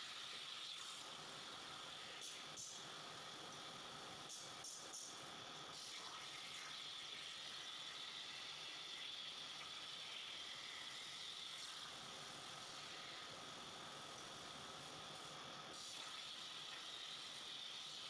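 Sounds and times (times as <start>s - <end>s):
plasma cutter torch hissing: 0.0s - 18.0s.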